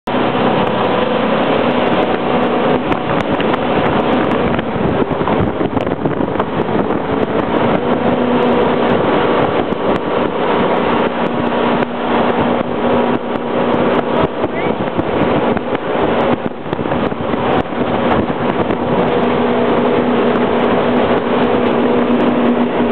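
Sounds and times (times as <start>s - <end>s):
boat engine drone: 0.0s - 22.9s
rushing water: 0.0s - 22.9s
wind buffeting microphone: 0.1s - 22.9s.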